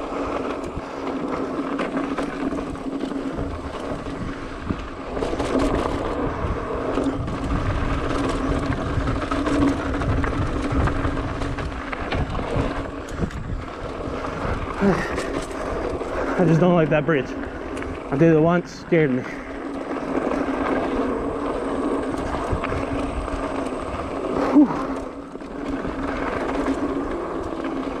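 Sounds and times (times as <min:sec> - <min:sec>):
bike clattering over bumps: 0:00.0 - 0:28.0
bike tyres rolling over dirt: 0:00.0 - 0:28.0
wind buffeting microphone: 0:00.0 - 0:28.0.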